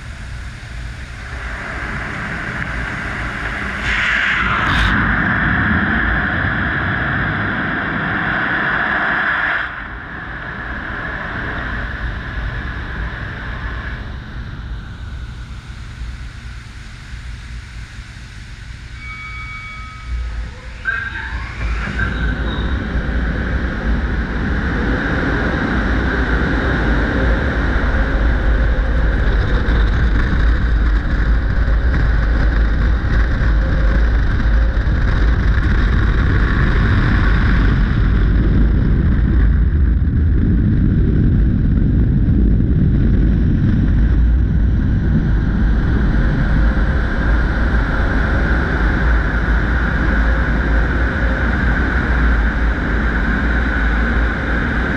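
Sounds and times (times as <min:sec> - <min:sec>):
wind buffeting microphone: 0:00.0 - 0:15.7, 0:21.4 - 0:54.9
blower dryers rushing air: 0:00.0 - 0:54.9.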